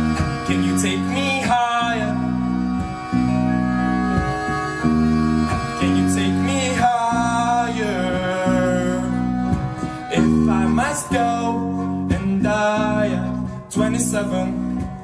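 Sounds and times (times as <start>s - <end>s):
person singing: 0.0s - 2.8s, 5.5s - 15.0s
accordion: 0.0s - 15.0s
live band playing: 0.0s - 15.0s.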